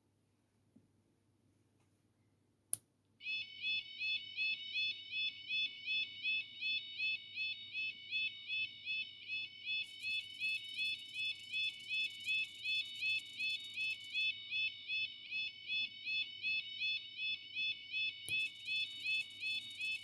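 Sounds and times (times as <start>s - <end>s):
warbling crossing alarm: 3.2s - 20.0s.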